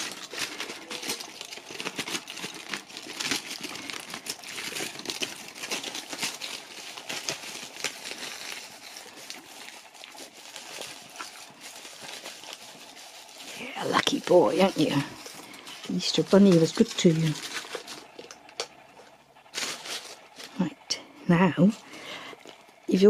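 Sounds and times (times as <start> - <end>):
foil wrapper crinkling: 0.0 - 21.0, 21.6 - 23.0.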